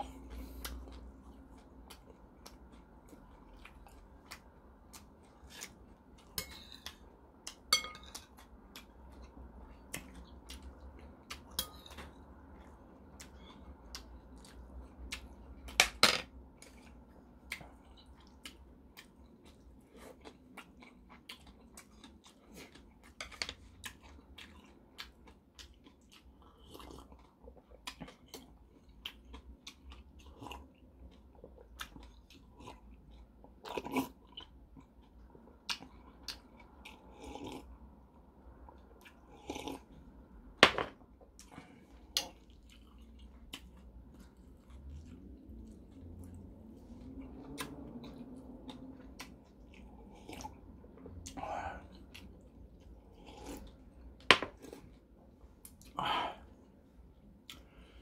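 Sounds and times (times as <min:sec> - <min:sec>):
person chewing: 0:00.0 - 0:15.8, 0:16.4 - 0:40.2, 0:41.1 - 0:58.0.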